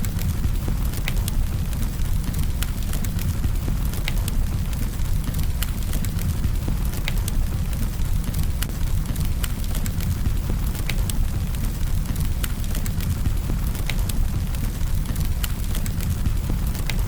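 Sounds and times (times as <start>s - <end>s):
campfire crackling: 0.0s - 17.0s
fire low rumble: 0.0s - 17.0s.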